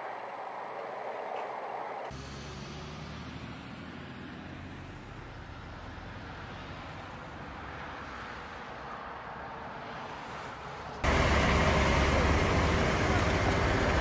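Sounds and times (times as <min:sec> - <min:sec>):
vehicle engine hum: 0:00.0 - 0:14.0
traffic and tyre noise: 0:02.1 - 0:14.0.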